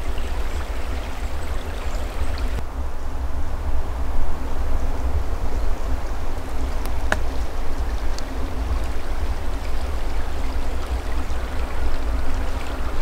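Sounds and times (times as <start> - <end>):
forest stream rushing: 0.0 - 2.6, 4.6 - 13.0
wind rumble on microphone: 0.0 - 13.0.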